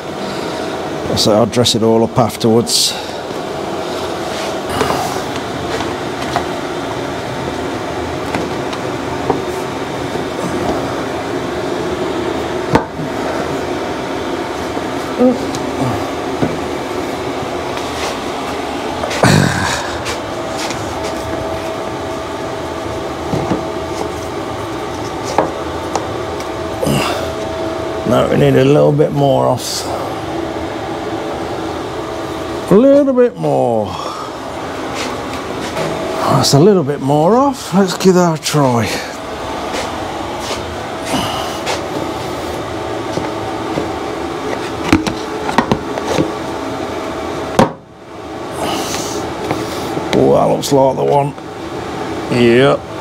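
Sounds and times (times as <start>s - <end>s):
faint hum: 0.0s - 53.0s.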